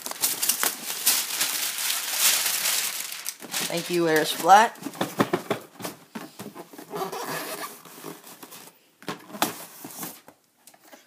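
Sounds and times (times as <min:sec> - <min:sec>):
cardboard and plastic rustling: 0:00.0 - 0:10.4.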